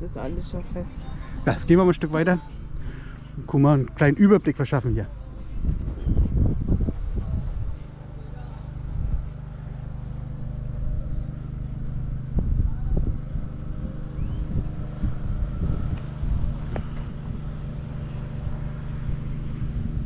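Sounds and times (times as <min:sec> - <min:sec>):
road traffic engine hum: 0:00.0 - 0:20.0.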